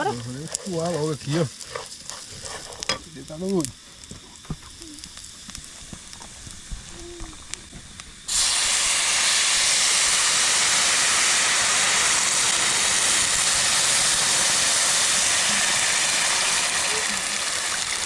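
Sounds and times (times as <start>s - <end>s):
rice sizzling in oil: 0.0s - 18.0s.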